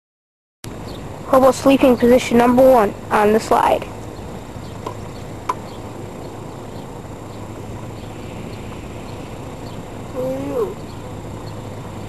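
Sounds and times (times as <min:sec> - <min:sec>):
outdoor background noise: 0:00.6 - 0:12.0.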